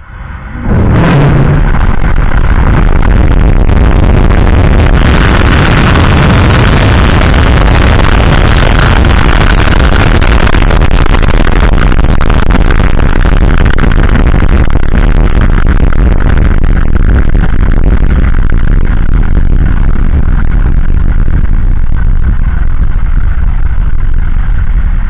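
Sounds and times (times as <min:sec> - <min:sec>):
rocket engines rumbling and crackling: 0:00.0 - 0:25.0.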